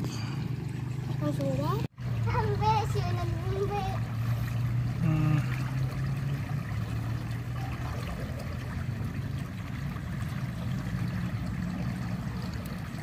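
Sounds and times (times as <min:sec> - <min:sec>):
low steady hum: 0:00.0 - 0:13.0
water trickling: 0:00.0 - 0:13.0.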